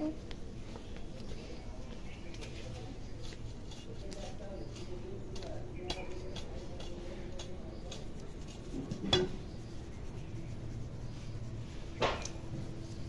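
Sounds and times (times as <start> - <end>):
quiet handling noises: 0.0 - 10.3, 11.0 - 13.0
steady low hum: 0.0 - 13.0.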